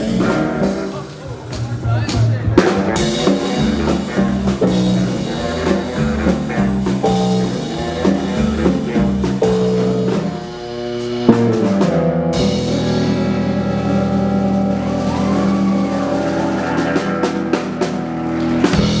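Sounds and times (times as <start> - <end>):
drum kit hits and fills: 0.0 - 19.0
live band playing loudly: 0.0 - 19.0.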